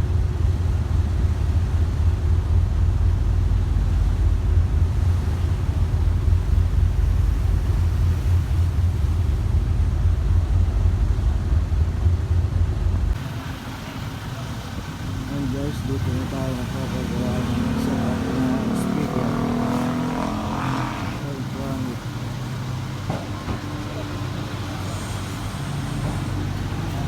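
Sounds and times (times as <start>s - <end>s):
motorcycle tricycle engine rumble: 0.0s - 27.0s
road noise: 0.0s - 27.0s.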